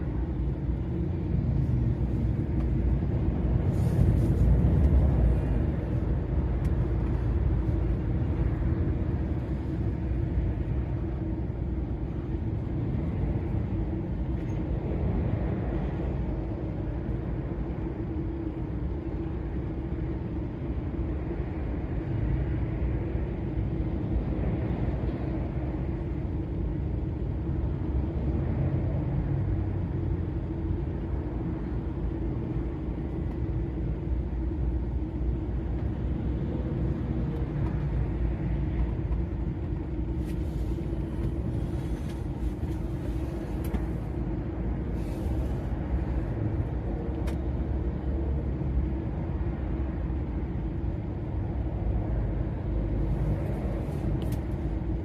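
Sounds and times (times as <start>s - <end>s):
lorry engine drone: 0.0s - 55.0s.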